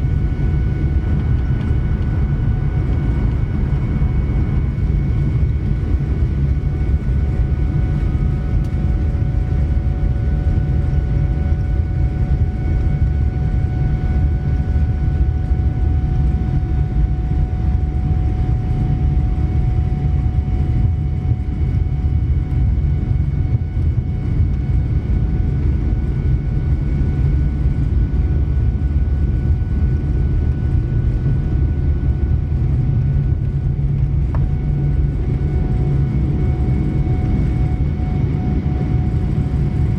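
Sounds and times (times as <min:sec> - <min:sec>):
jet engines rumbling: 0:00.0 - 0:39.9
whining fan tones: 0:00.0 - 0:39.9.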